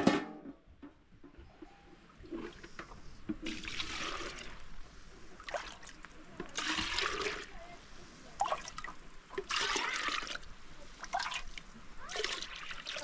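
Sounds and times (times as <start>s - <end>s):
water trickling and splashing: 1.6s - 13.0s.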